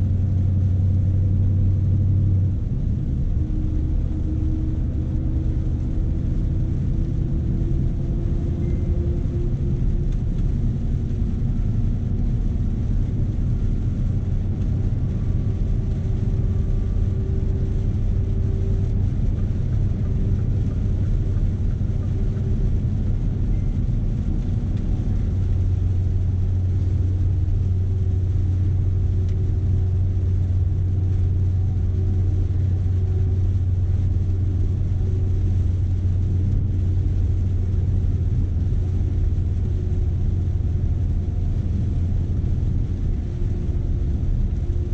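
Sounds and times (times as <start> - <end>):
road noise: 0.0 - 44.9
truck engine droning: 0.0 - 44.9.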